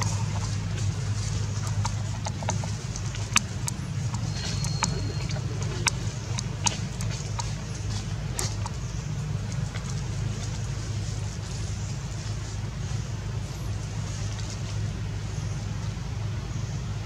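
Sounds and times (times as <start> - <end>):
dry leaves crackling: 0.0 - 15.7
steady low hum: 0.0 - 17.0.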